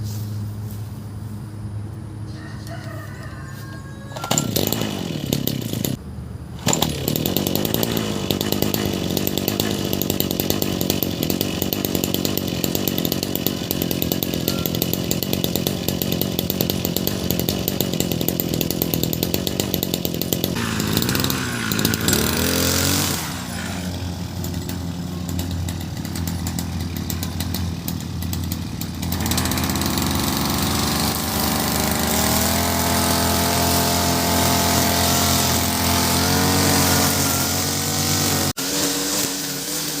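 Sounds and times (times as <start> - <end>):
brush cutter cutting grass: 3.5 - 40.0.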